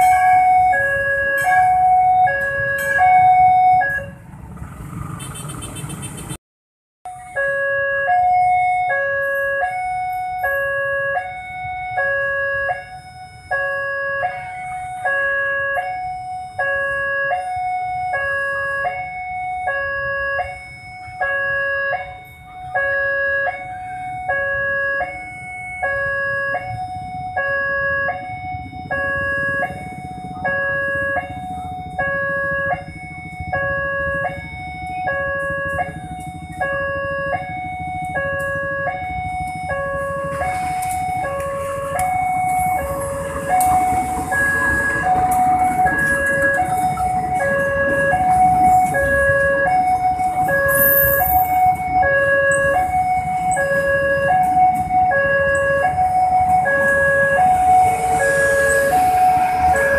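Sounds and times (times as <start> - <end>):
level crossing two-tone alarm: 0.0 - 4.1, 7.1 - 59.9
diesel locomotive rumble: 0.0 - 6.4, 7.1 - 59.9.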